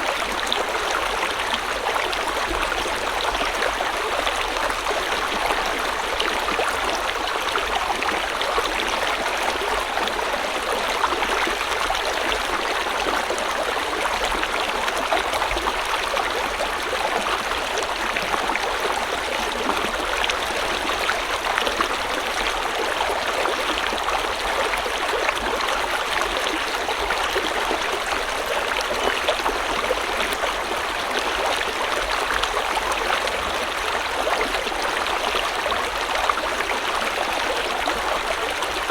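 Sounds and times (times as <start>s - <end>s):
water flowing over rocks: 0.0s - 38.9s.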